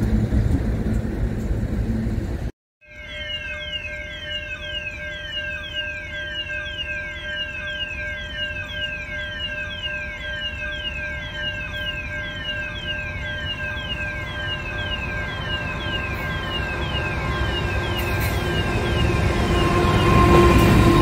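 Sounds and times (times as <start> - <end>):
train rumbling: 0.0 - 2.5, 3.9 - 21.0
level-crossing warning bell: 2.8 - 21.0.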